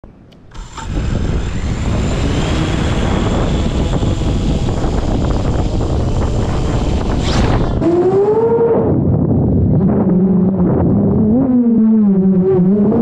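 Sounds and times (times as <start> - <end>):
drone motors and propellers: 0.5 - 13.0.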